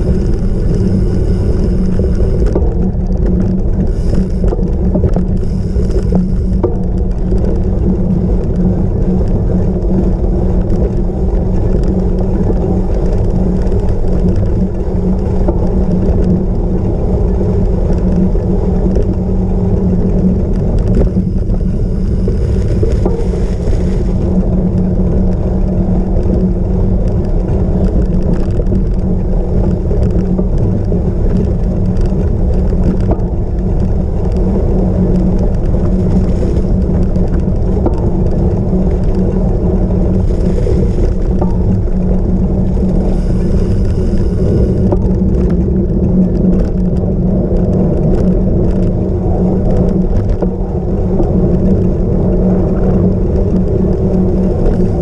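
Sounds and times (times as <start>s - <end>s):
bike rumbling over rough ground: 0.0s - 55.0s
wind on microphone: 0.0s - 55.0s.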